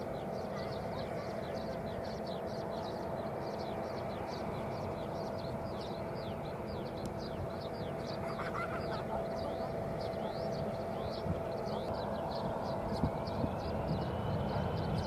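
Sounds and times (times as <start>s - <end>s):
jet engines rumbling and whining: 0.0s - 15.0s.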